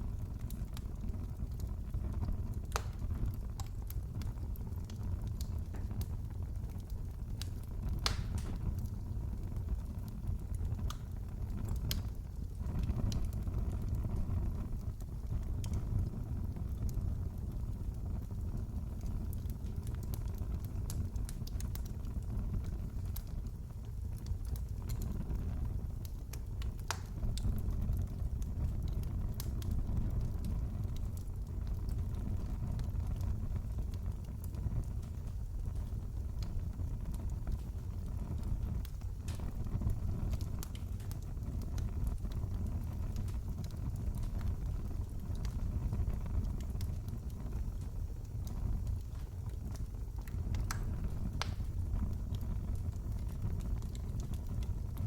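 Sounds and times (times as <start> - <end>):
fire pops and snaps: 0.0 - 55.0
wood fire crackling: 0.0 - 55.0.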